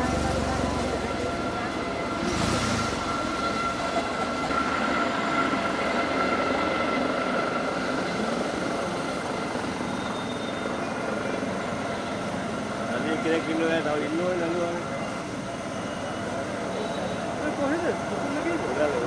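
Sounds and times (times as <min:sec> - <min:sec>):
helicopter engine and rotors: 0:00.0 - 0:19.0.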